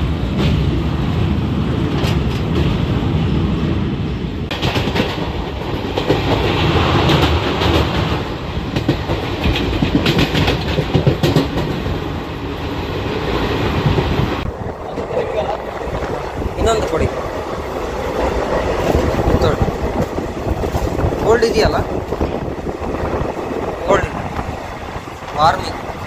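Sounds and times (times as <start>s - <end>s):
train wheels rumbling: 0.0s - 26.0s
wheels clacking over rail joints: 1.8s - 3.1s, 4.5s - 26.0s.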